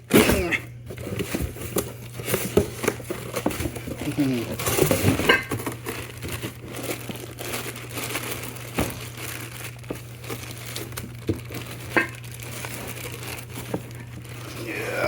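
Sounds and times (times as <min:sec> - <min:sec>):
packaging crinkling and rustling: 0:00.8 - 0:15.0.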